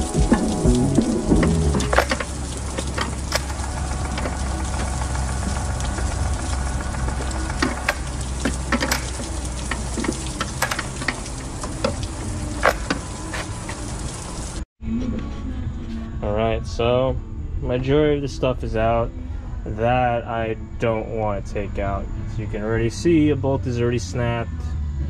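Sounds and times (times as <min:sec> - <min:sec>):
low hum and hiss: 0:00.0 - 0:25.0.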